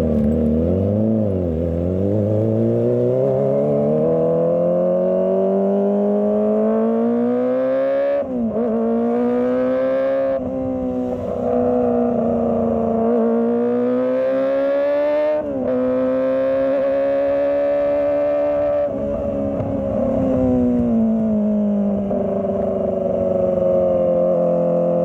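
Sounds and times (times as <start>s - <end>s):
motorcycle engine revving whine: 0.0s - 25.0s.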